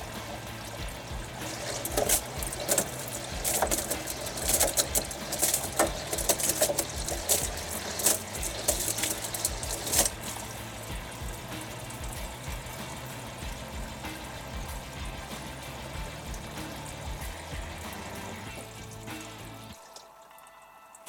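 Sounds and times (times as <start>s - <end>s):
sharp splashes: 0.0s - 20.1s
water sloshing in washing machine: 0.0s - 20.4s.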